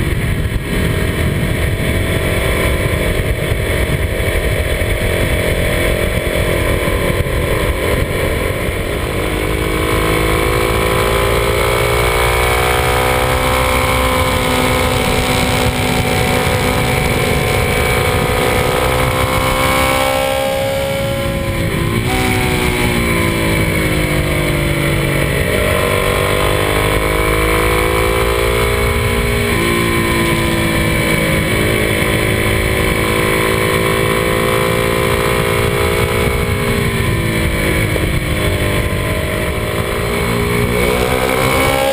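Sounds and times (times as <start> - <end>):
motorcycle engine running: 0.0 - 41.9
wind rumble on camera: 0.0 - 41.9.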